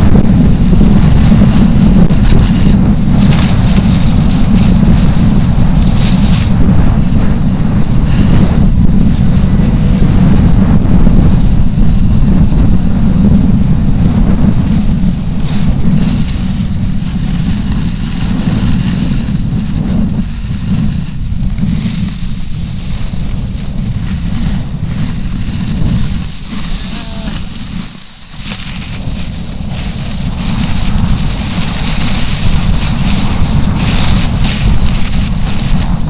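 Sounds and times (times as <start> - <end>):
snowboard scraping over snow: 0.0 - 36.0
wind buffeting microphone: 0.0 - 36.0.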